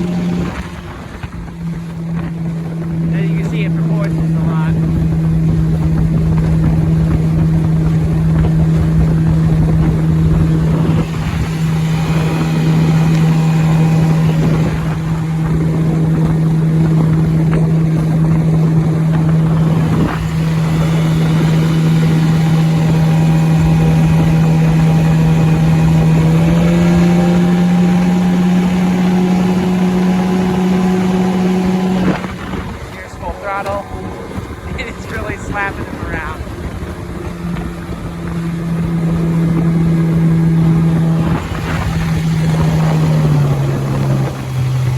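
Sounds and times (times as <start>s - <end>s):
outboard motor running: 0.0s - 44.9s
water noise: 0.0s - 44.9s
wind noise: 0.0s - 44.9s.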